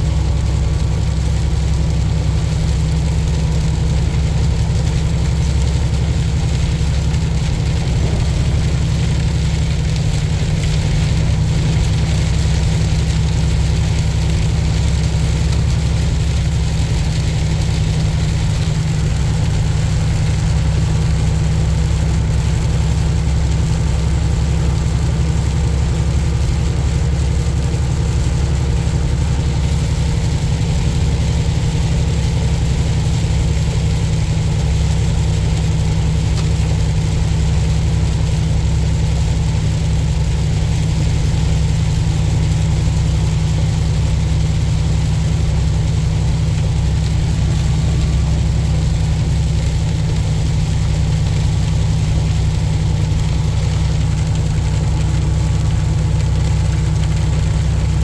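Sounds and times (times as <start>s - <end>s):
diesel truck engine droning: 0.0s - 58.0s
road noise hiss: 0.0s - 58.0s.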